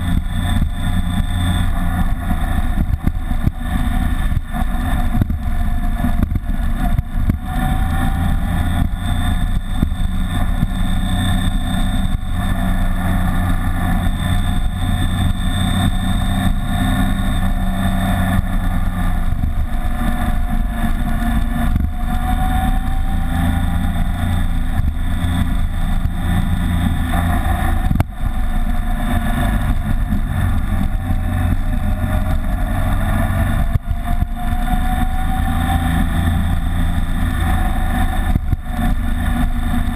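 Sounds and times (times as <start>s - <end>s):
motorcycle engine running: 0.0s - 39.9s
wind rush on camera: 0.0s - 39.9s.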